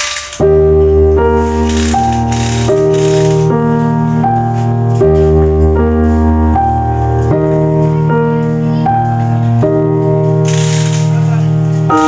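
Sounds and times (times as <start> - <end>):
sustained keyboard chords: 0.0 - 12.0
steady bass: 0.4 - 12.0.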